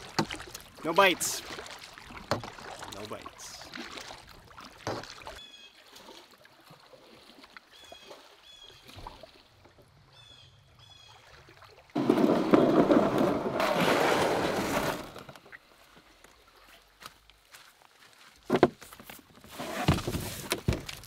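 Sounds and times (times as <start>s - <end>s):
lake water sloshing and splashing: 0.0s - 21.0s.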